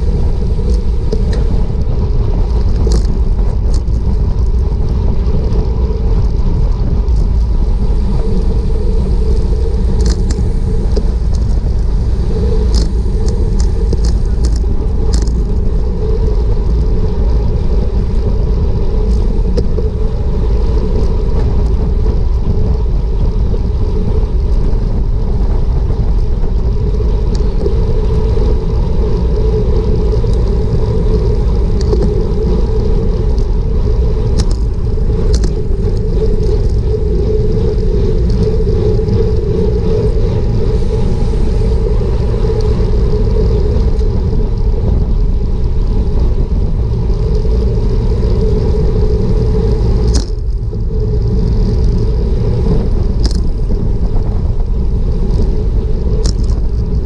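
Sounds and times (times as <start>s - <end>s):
tyre and road hiss: 0.0s - 57.0s
wind buffeting microphone: 0.0s - 57.0s.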